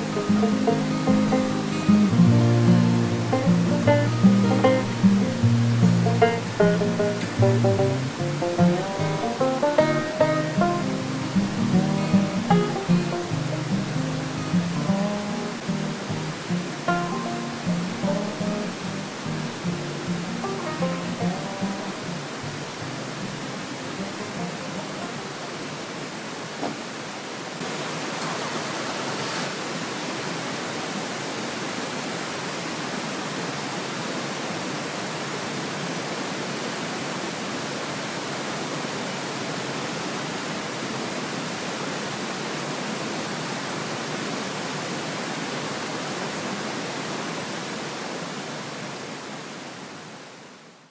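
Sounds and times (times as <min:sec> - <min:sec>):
mountain stream rushing: 0:00.0 - 0:50.8.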